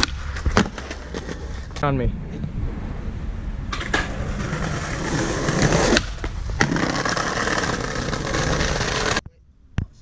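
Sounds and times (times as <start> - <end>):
skateboard wheels rolling on pavement: 0.0 - 9.2.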